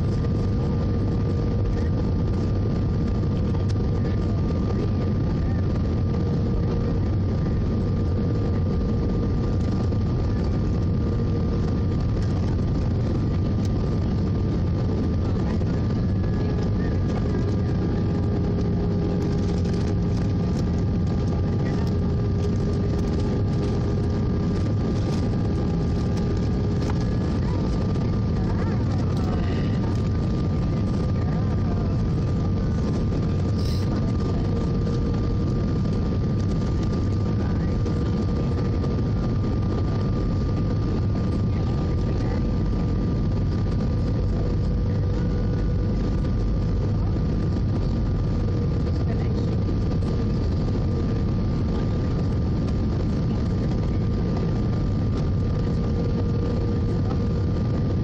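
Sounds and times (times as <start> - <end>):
airplane cabin rumble: 0.0 - 58.0
steady whining tones: 0.0 - 58.0.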